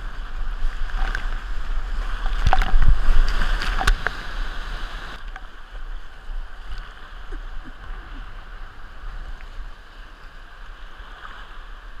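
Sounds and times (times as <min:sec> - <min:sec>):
steady low rumble: 0:00.0 - 0:10.3
paddle splashing: 0:00.0 - 0:12.0
river current rushing and gurgling: 0:00.0 - 0:12.0.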